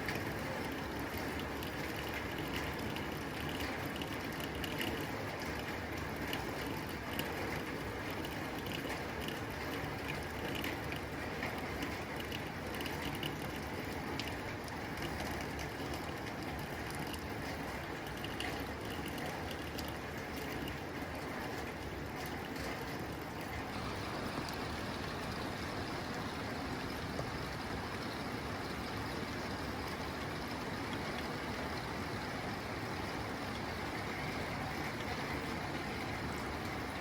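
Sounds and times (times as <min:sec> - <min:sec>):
rain on a tin roof: 0:00.0 - 0:37.0.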